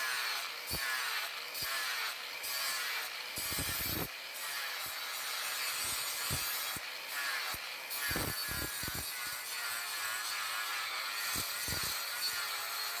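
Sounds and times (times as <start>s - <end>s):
steel blade scraping: 0.0s - 13.0s.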